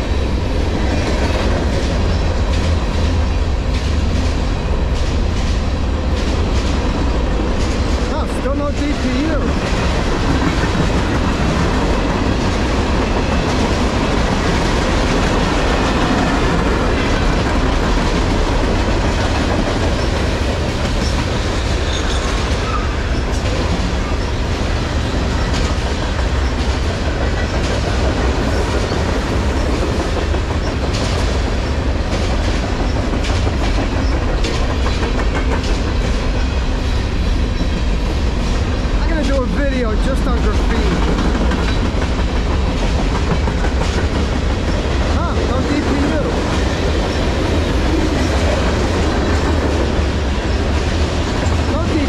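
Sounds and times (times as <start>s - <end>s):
train wheels rumbling on rails: 0.0s - 52.0s
wheels clicking over rail joints: 0.8s - 36.5s, 37.5s - 52.0s.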